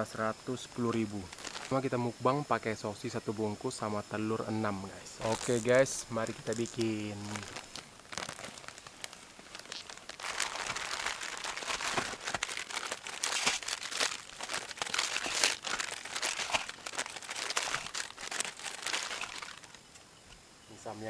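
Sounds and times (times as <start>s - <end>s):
plastic packaging crinkling: 0.0s - 19.9s.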